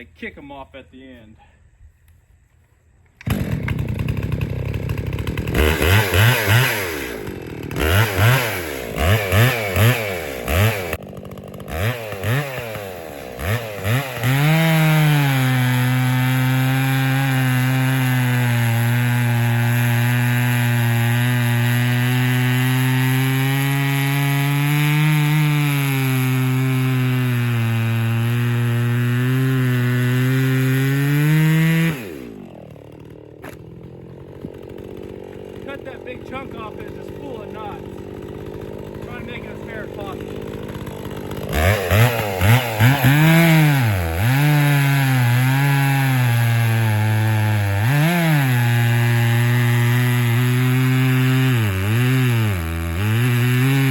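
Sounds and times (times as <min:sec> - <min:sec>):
chainsaw throttle blips: 0:03.1 - 0:53.9
chainsaw cutting a log: 0:03.2 - 0:53.9.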